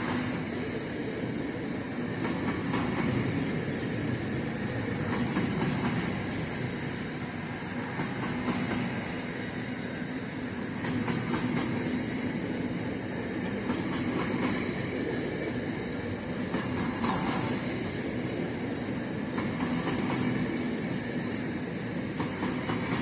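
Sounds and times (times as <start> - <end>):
sharp clicks of train wheels: 0.0 - 23.0
train wheels rumbling on rails: 0.0 - 23.0.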